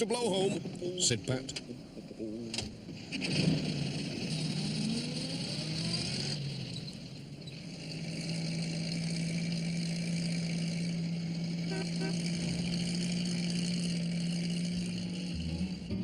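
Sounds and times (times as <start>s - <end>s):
van engine pulling away: 2.6s - 16.0s.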